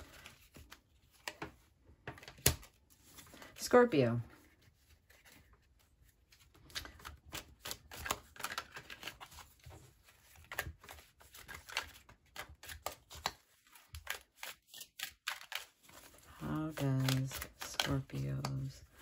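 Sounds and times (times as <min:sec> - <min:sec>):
cards being shuffled: 0:00.0 - 0:03.6, 0:04.4 - 0:19.0.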